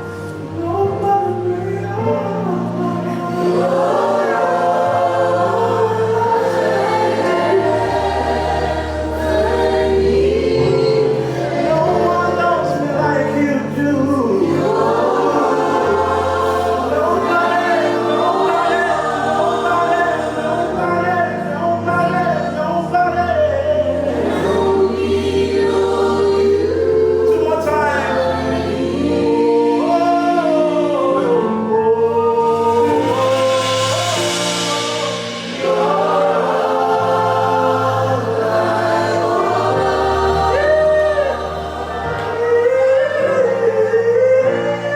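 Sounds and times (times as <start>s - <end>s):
bass and keyboard chords: 0.0s - 44.9s
group singing gospel: 0.0s - 44.9s.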